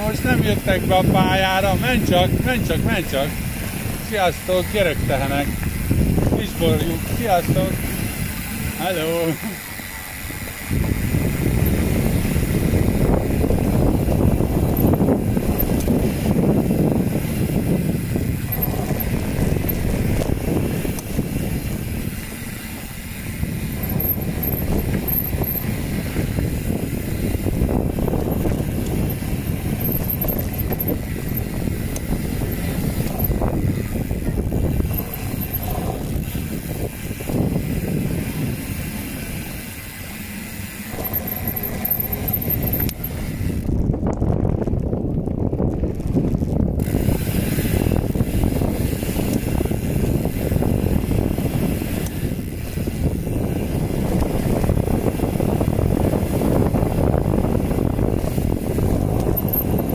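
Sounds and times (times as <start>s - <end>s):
wind on the microphone: 0.0s - 9.6s, 10.2s - 59.9s
bike tyres rumbling on dirt: 0.0s - 59.9s.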